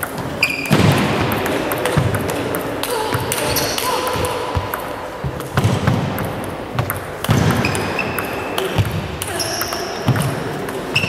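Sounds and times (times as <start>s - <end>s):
ping pong ball clicking and bouncing: 1.3s - 11.0s.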